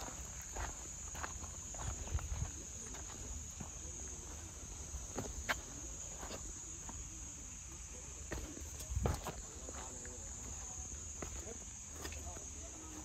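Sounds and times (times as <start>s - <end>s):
footsteps on trail: 0.0s - 13.0s
insects chirring: 0.0s - 13.0s.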